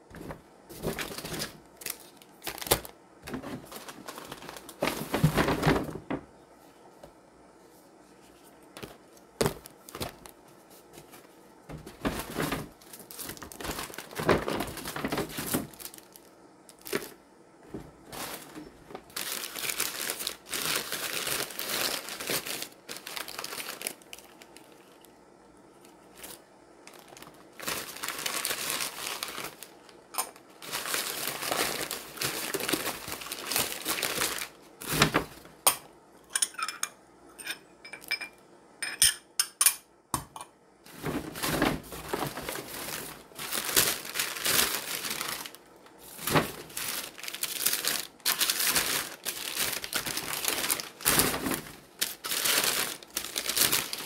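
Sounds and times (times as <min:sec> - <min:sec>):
plastic packaging crinkling and tearing: 0:00.2 - 0:06.0, 0:08.8 - 0:10.4, 0:11.0 - 0:17.2, 0:18.1 - 0:25.1, 0:25.8 - 0:35.5, 0:40.9 - 0:54.0.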